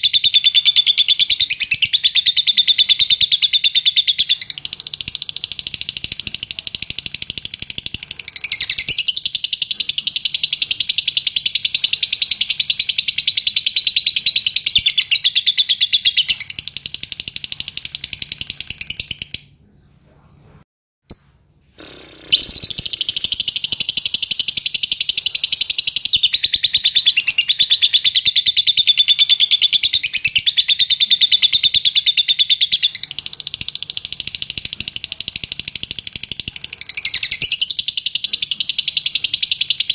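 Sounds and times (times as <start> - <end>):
lovebird chattering trill: 0.0 - 19.5, 21.1 - 39.9.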